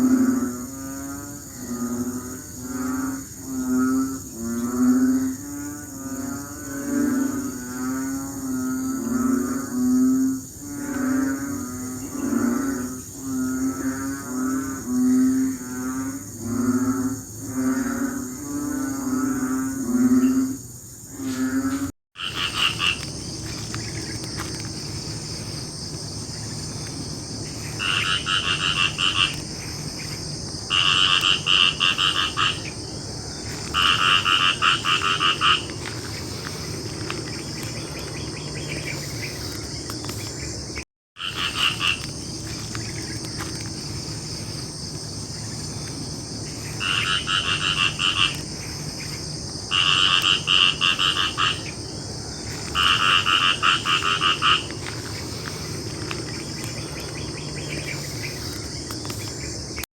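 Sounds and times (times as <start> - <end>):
frog croaking: 0.0 - 59.9
high insect trill: 0.0 - 59.9.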